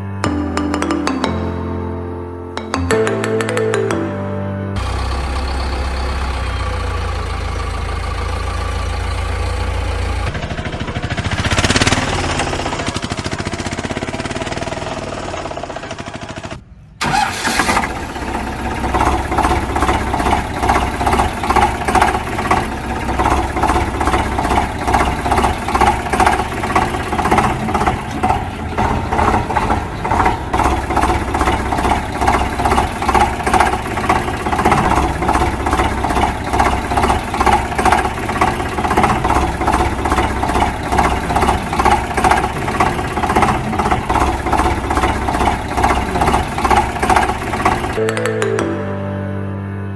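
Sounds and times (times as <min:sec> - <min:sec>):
engine idling: 0:04.8 - 0:48.0
engine running hum: 0:04.8 - 0:48.0.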